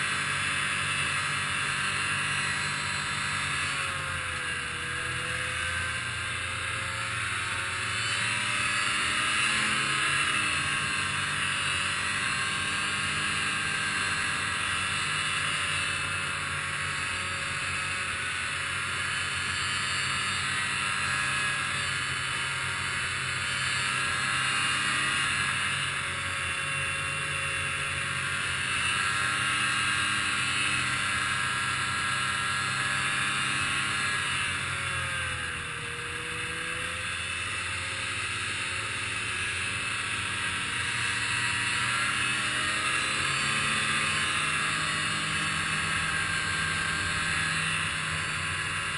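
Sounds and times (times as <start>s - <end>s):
snowmobile engine running: 0.0s - 48.9s.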